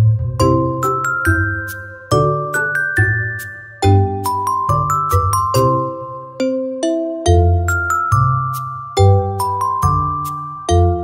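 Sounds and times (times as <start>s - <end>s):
light tune with bass line: 0.0s - 11.0s.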